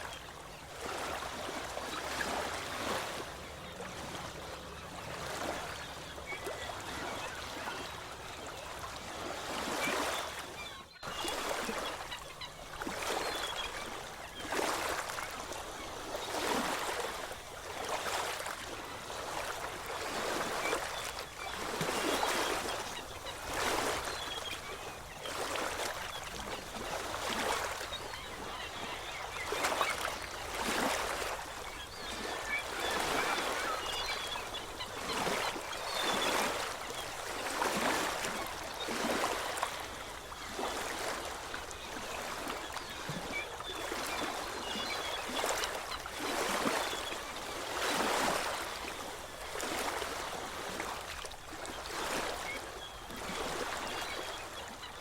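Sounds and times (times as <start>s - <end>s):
faint bird calls: 0.0s - 51.1s
sea waves washing on shore: 0.0s - 54.5s.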